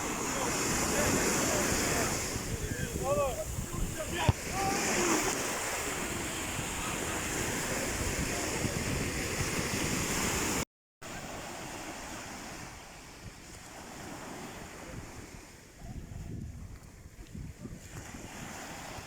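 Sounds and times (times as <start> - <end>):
ocean surf washing: 0.0 - 16.3, 17.8 - 19.0.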